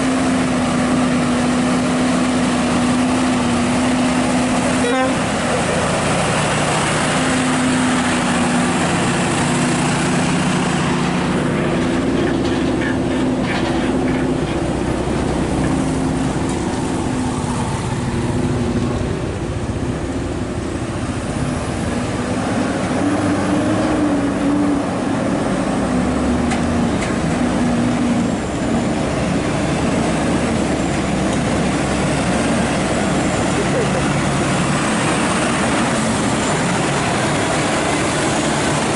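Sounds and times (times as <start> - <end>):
diesel truck engine droning: 0.0 - 38.9
road noise: 0.0 - 38.9.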